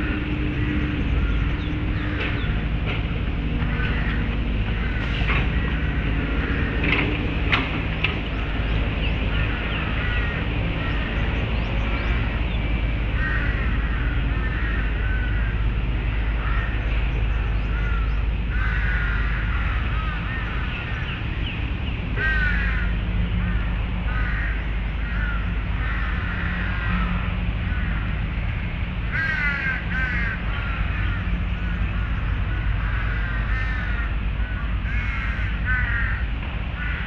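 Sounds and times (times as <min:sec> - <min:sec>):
crow-like bird caws: 0:00.0 - 0:11.6, 0:13.1 - 0:21.4, 0:22.1 - 0:37.0
low background rumble: 0:00.0 - 0:37.0.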